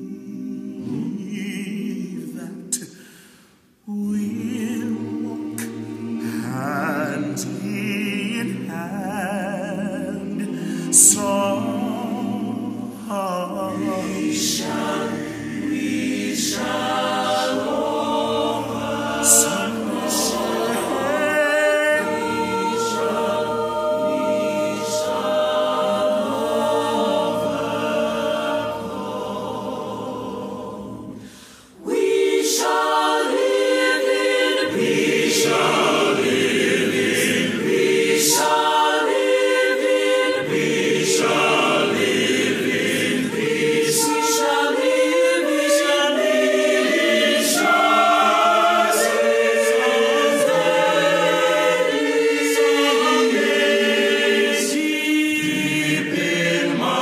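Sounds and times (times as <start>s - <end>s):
mixed choir singing: 0.0s - 2.9s, 3.9s - 57.0s
women's voices singing: 3.9s - 57.0s.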